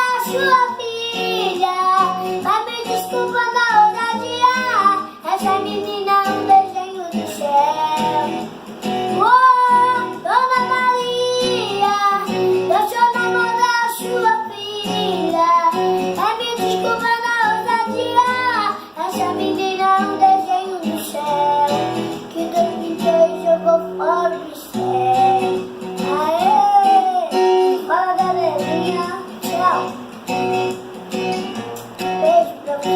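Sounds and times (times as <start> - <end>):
young person singing: 0.0 - 30.2, 31.4 - 32.9
acoustic guitar: 0.0 - 32.9.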